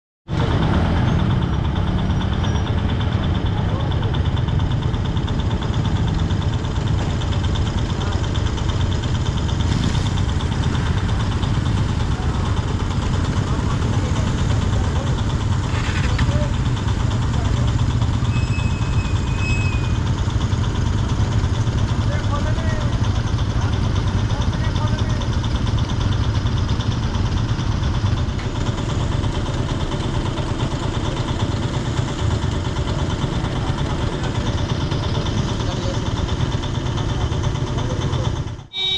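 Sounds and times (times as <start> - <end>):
vehicle engines idling: 0.3 - 38.9.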